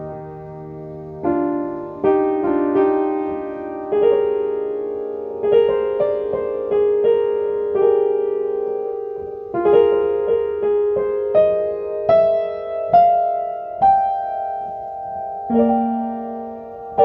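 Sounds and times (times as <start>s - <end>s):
slow gentle piano: 0.0s - 17.0s.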